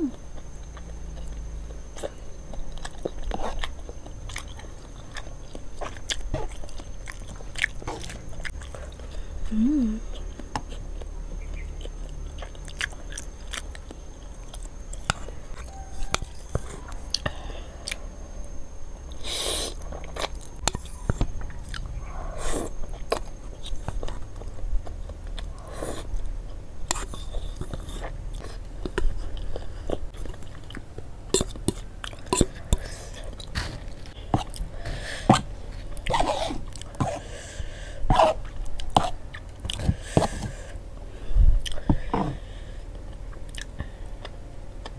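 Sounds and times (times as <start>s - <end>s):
person chewing with wet smacks: 0.1s - 18.0s, 19.1s - 37.3s, 38.1s - 40.7s, 41.6s - 44.9s.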